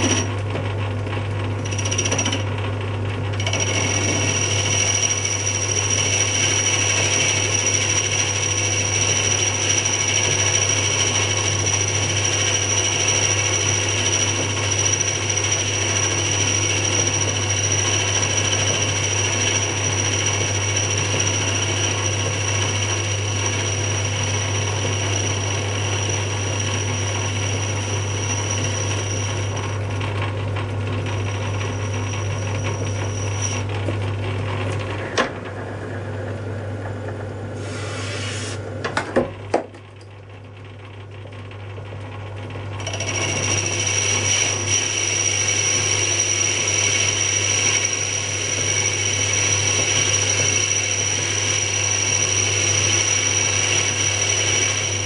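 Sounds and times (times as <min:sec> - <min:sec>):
lathe motor hum: 0:00.0 - 0:00.5, 0:01.3 - 0:02.6, 0:03.3 - 0:38.6, 0:42.5 - 0:55.0.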